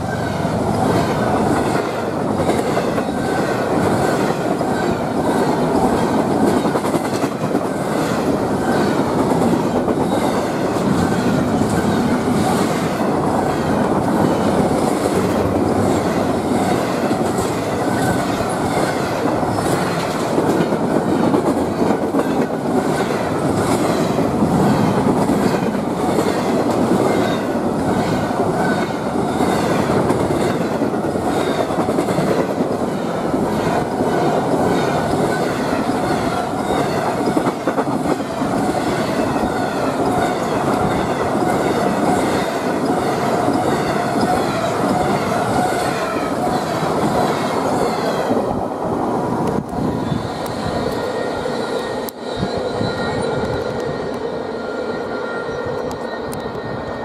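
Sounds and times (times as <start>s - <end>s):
freight train rumble and rattle: 0.0s - 57.0s.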